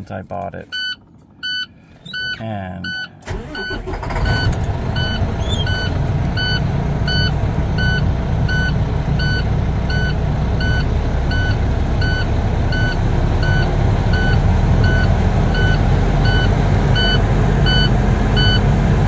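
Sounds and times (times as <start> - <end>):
diesel engine idling: 1.0 - 19.0.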